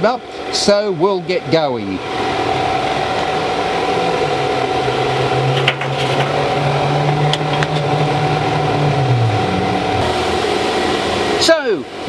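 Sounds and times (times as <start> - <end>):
electric fan whirring: 0.0 - 12.0.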